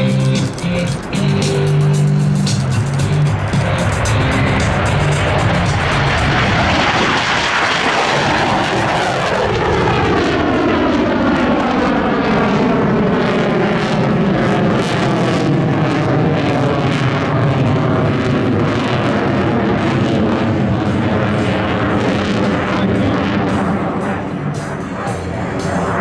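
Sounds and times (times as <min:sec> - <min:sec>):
jet engines passing: 0:00.0 - 0:26.0.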